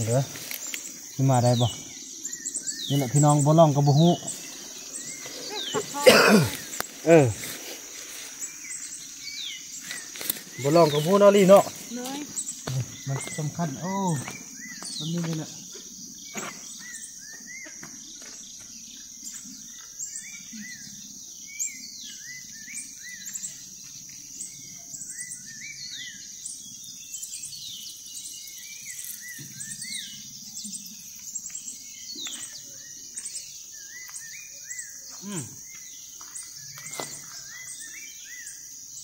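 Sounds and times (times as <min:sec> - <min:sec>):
birds chirping: 0:00.0 - 0:39.0
high-pitched insect drone: 0:00.0 - 0:39.0.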